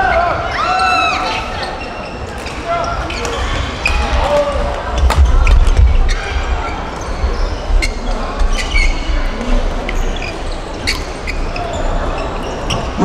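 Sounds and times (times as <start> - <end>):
shoes squeaking on floor: 1.6 - 13.0.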